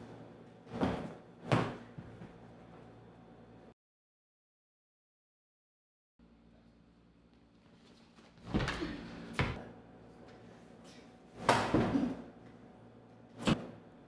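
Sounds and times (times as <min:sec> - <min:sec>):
low room hum: 0:00.0 - 0:03.8, 0:06.2 - 0:14.0.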